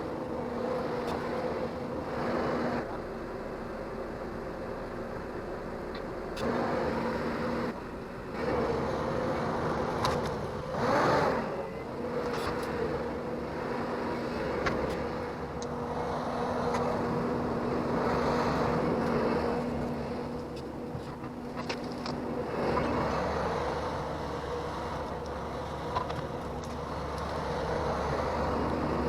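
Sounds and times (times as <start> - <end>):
diesel engine running under load: 0.0 - 29.0.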